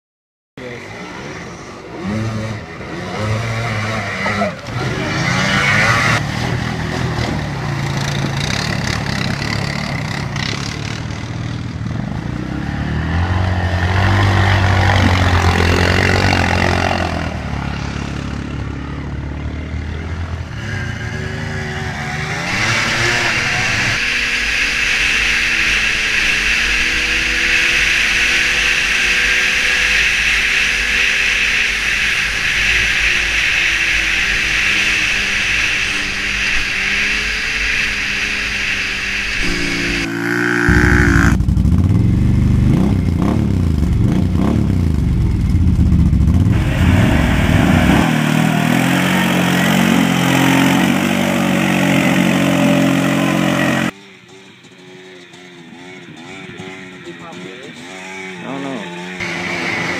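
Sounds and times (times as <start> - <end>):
snowmobile engine running: 0.6 - 12.5, 13.1 - 19.0, 20.8 - 59.9
quad engine revving: 0.6 - 59.9.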